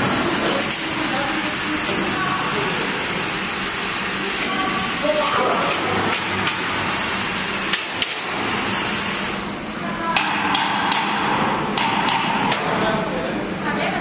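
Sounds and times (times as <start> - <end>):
plasma cutter hissing: 0.0 - 12.9.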